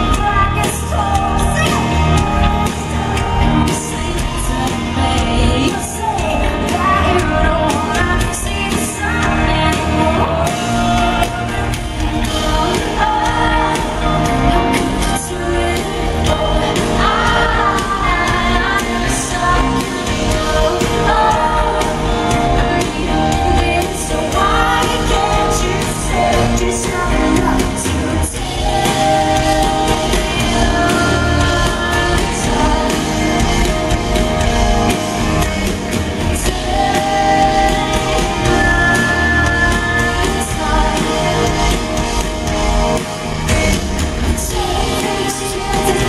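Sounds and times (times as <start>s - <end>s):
drums: 0.0s - 46.0s
electric guitars: 0.0s - 46.0s.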